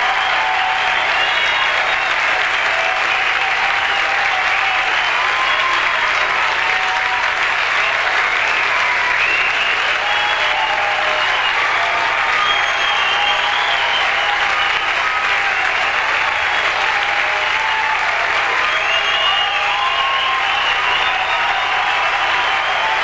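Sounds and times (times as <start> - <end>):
audience applauding: 0.0 - 23.0
cheers and whistles: 0.0 - 23.0.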